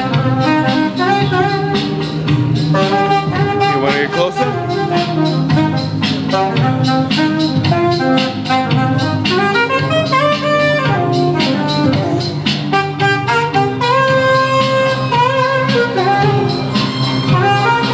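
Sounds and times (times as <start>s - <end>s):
backing track with beat and bass: 0.0s - 17.9s
saxophone melody: 0.0s - 17.9s.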